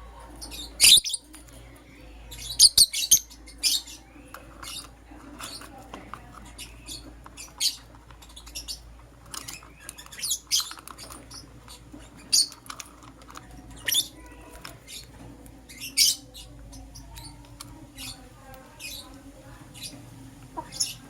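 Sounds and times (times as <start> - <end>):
lovebirds chirping: 0.0 - 21.0.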